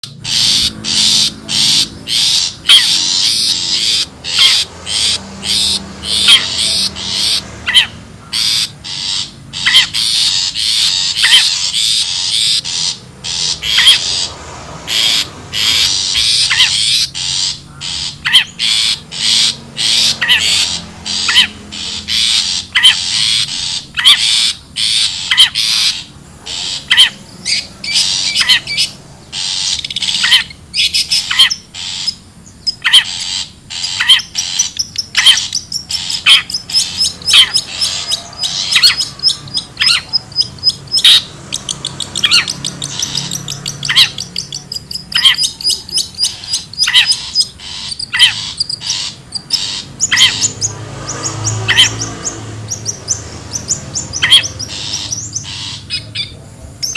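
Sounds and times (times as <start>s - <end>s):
shrike harsh chattering: 0.0s - 56.9s.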